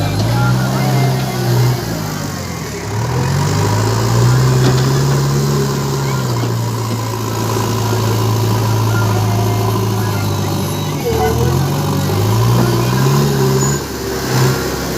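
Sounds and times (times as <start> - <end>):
heavy diesel engine running: 0.0 - 14.9.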